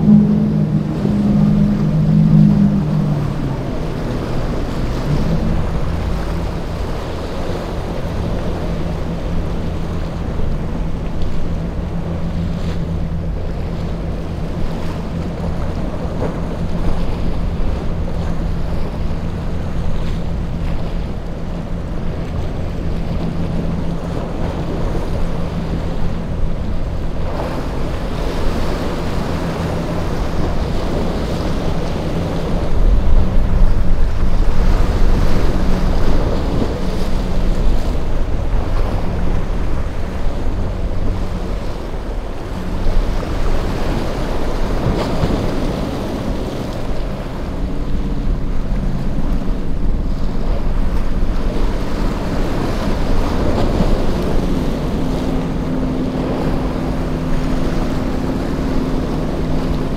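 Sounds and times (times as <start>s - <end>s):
outboard engines droning: 0.0s - 59.9s
surf rushing: 0.0s - 59.9s
wind buffeting microphone: 0.0s - 59.9s.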